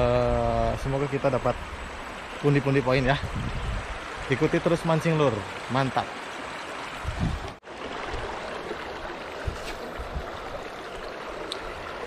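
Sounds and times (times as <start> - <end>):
river water flowing over rocks: 0.7 - 12.0.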